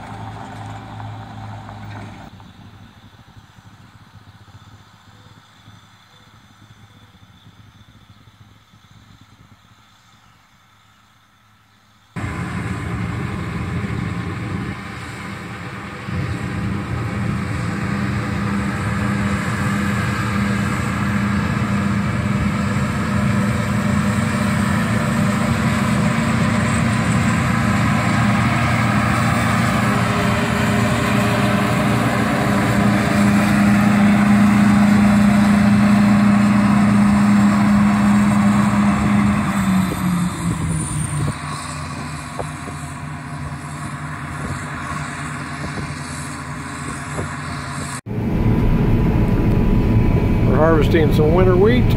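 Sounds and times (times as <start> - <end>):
combine harvester engine drone: 0.0 - 10.8, 12.1 - 51.9.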